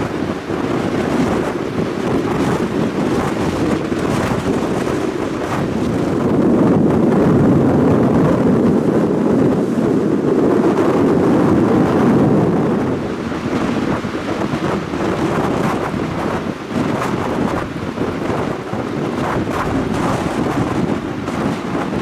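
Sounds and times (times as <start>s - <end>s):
storm waves crashing: 0.0s - 22.0s
wind buffeting microphone: 0.0s - 22.0s.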